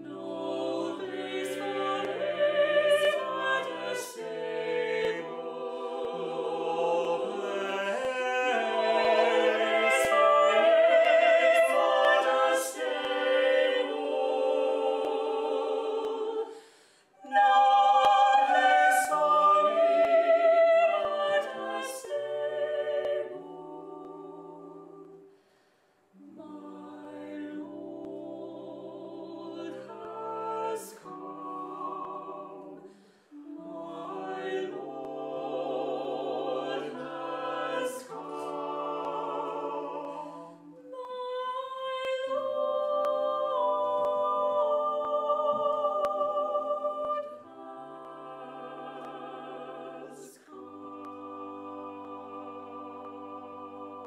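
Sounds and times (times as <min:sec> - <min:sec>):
vocal quartet singing in harmony: 0:00.0 - 0:54.0.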